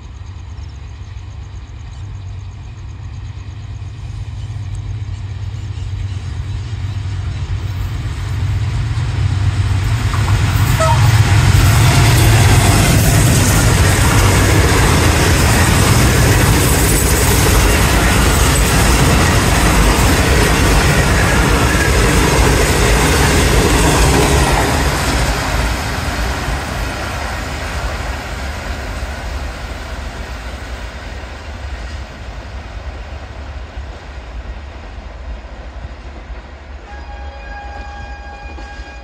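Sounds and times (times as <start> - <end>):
diesel train passing: 0.0 - 39.0.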